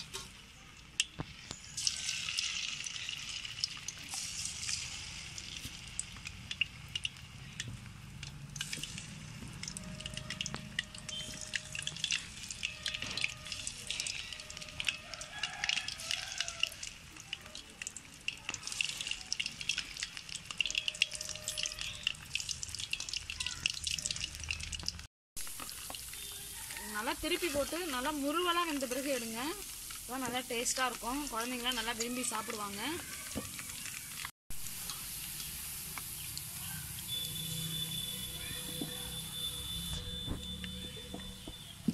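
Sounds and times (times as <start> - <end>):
food deep-frying in oil: 0.0 - 41.9.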